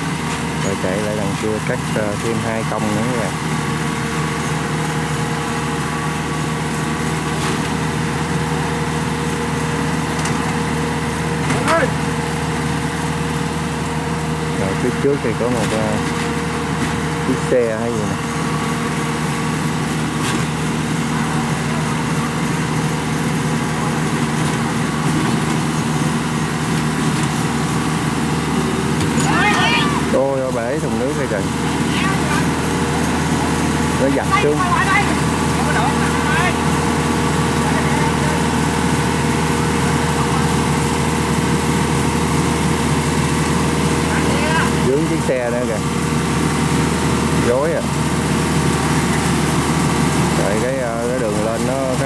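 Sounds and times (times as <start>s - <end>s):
constant whine: 0.0s - 52.0s
diesel engine running: 0.0s - 52.0s.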